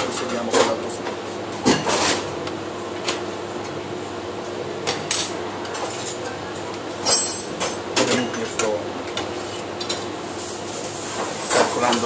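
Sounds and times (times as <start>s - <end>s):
kitchen background noise: 0.0s - 12.0s.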